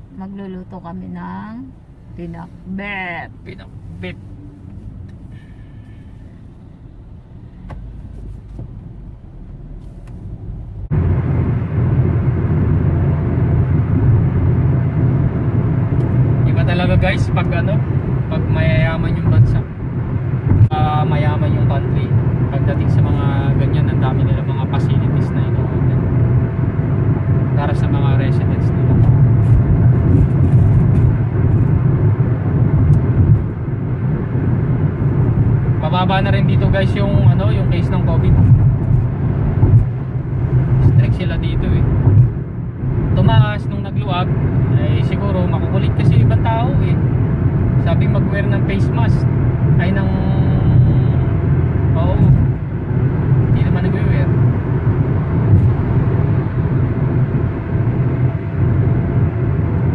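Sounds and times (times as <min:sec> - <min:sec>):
car cabin road and engine noise: 0:00.0 - 0:59.9.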